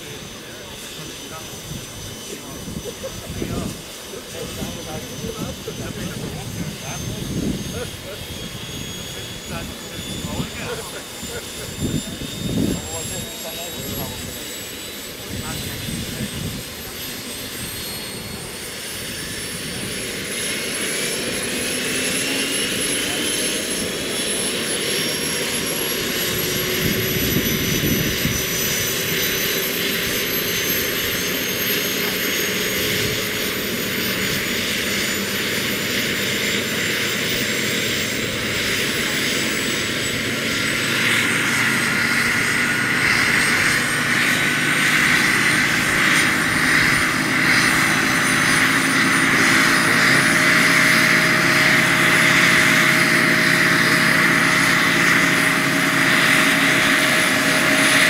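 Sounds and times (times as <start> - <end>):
turbine whine rising in pitch: 0.0 - 58.0.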